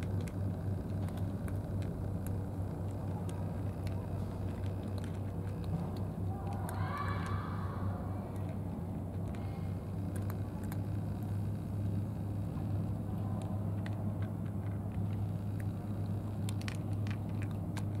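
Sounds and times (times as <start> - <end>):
faint clicks and ticks: 0.0 - 7.6, 8.3 - 18.0
low outdoor rumble: 0.0 - 18.0.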